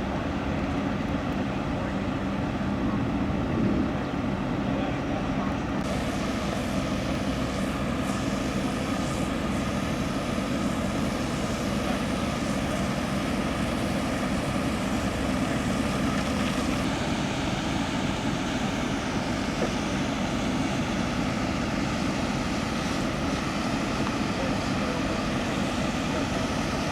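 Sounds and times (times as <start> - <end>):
engine drone with low rumble: 0.0 - 26.9.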